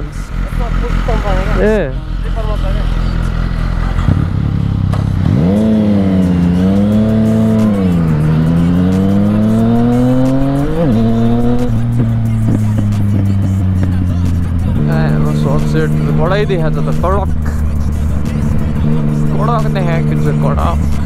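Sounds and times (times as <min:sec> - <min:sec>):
motorcycle engine revving: 0:00.0 - 0:21.0
steady low drone: 0:00.0 - 0:21.0.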